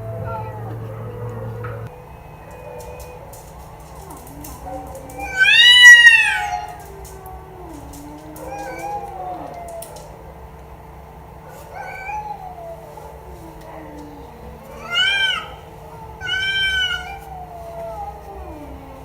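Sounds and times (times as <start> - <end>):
cat meowing: 2.5 - 10.5, 11.4 - 19.0.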